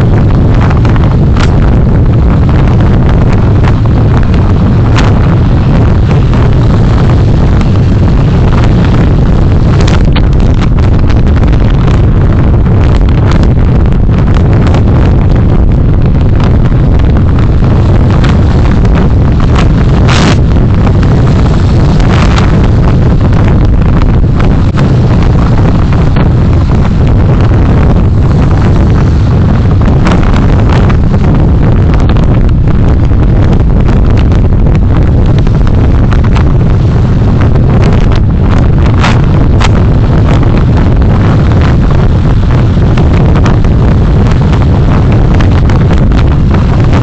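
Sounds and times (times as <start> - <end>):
car driving low rumble: 0.0 - 47.0
road noise: 0.0 - 47.0
wind buffeting microphone: 0.0 - 47.0.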